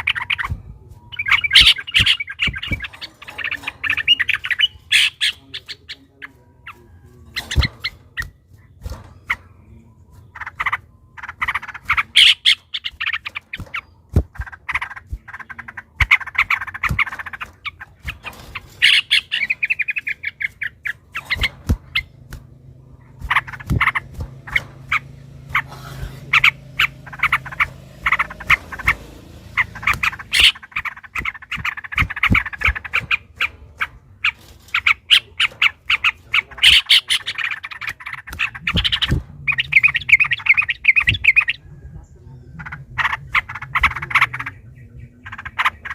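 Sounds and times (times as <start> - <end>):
bulbuls singing chattering notes: 0.0 - 45.9.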